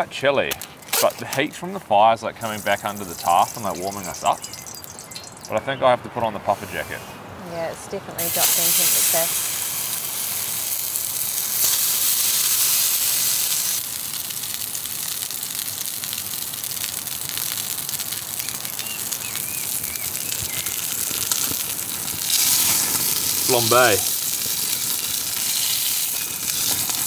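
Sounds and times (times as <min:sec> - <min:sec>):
burger patties sizzling in pan: 0:02.4 - 0:05.4, 0:08.2 - 0:27.0.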